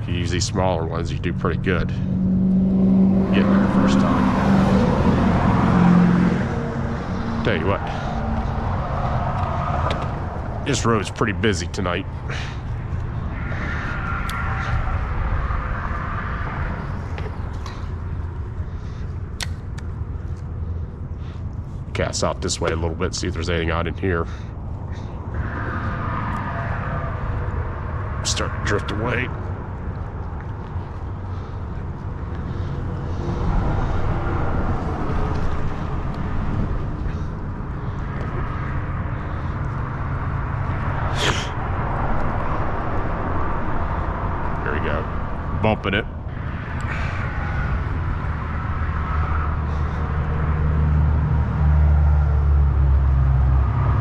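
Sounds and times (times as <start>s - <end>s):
low traffic rumble: 0.0s - 54.0s
vehicle tyre noise passing: 0.0s - 54.0s.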